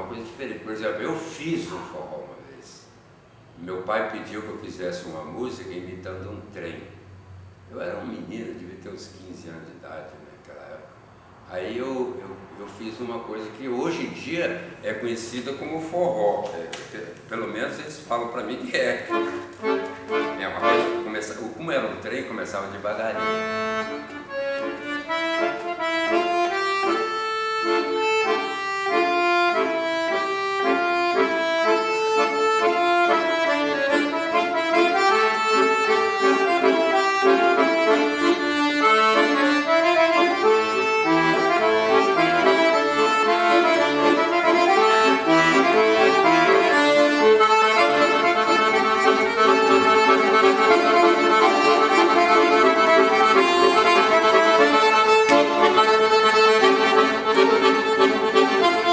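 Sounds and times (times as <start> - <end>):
solo accordion tune: 0.0 - 6.3, 11.6 - 58.9.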